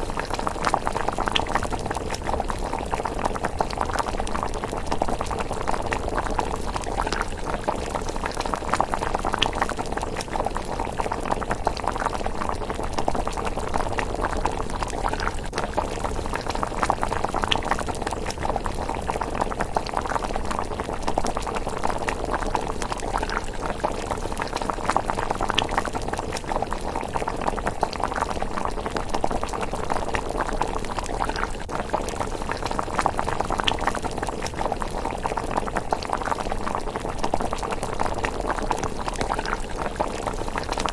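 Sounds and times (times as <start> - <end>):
porridge bubbling and popping: 0.0 - 40.9.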